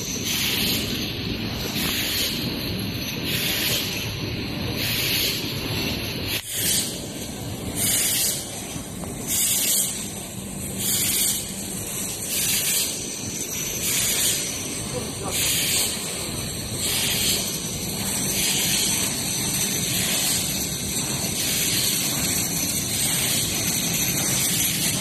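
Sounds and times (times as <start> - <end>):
production line machinery running: 0.0 - 25.0
rushing air noise: 0.0 - 25.0.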